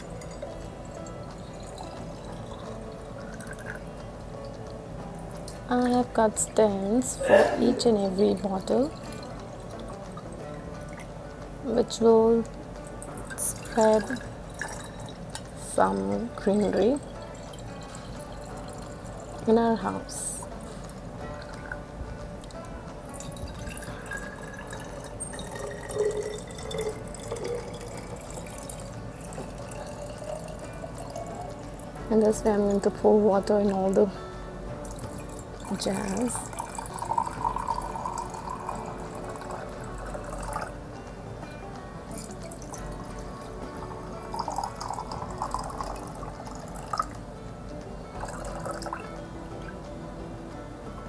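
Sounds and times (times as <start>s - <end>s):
water pouring into glass jar: 0.0s - 6.4s, 7.0s - 11.1s, 12.9s - 21.8s, 22.4s - 34.1s, 34.8s - 40.8s, 42.1s - 47.3s, 48.2s - 49.2s
background music: 0.0s - 51.0s.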